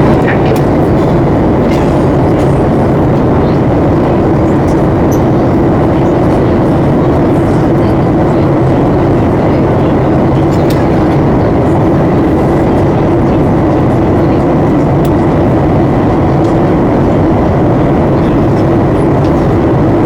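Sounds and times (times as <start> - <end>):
jet engines running: 0.0 - 20.0
steady low hum: 0.0 - 20.0.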